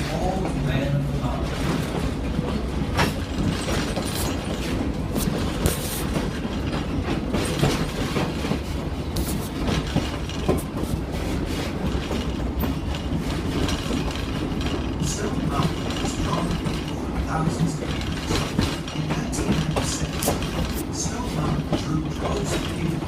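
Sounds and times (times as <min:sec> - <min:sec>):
train rumbling: 0:00.0 - 0:23.0
wheels clacking over rails: 0:00.0 - 0:23.0.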